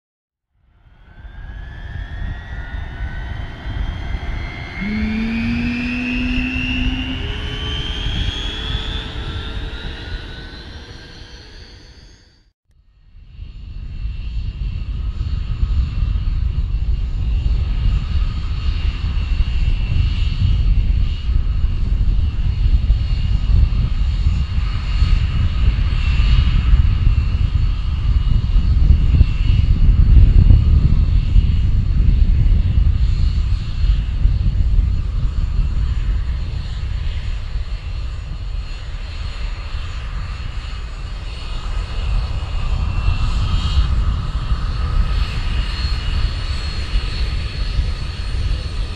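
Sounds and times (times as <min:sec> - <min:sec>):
jet engines whining and rumbling: 0:00.7 - 0:12.5, 0:13.3 - 0:48.9.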